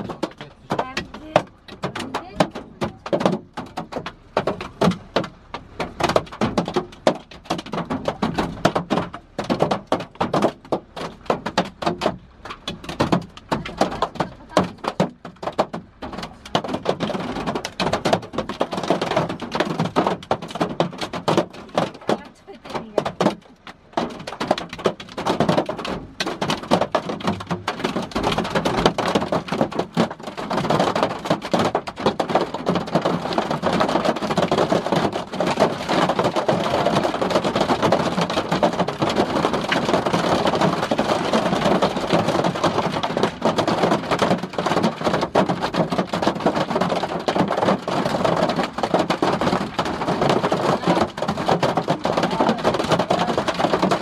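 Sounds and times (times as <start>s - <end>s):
hail drumming on car roof: 0.0s - 54.0s.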